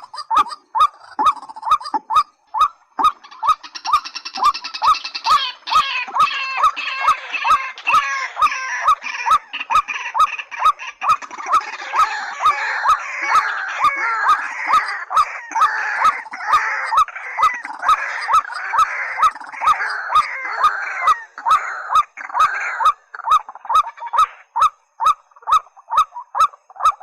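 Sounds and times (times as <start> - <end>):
chorus of bird calls: 0.0 - 27.0
waterhen hooked call: 0.0 - 27.0.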